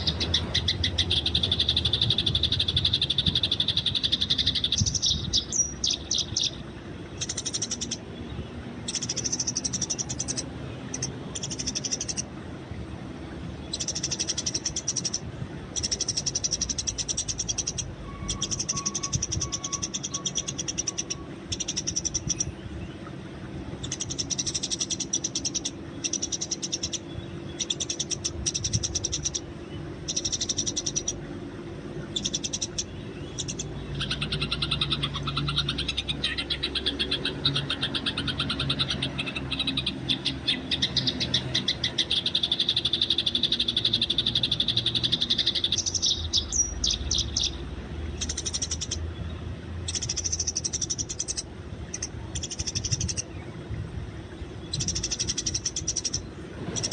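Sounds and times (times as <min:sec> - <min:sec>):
sparrows chirping: 0:00.0 - 0:23.1, 0:23.7 - 0:56.9.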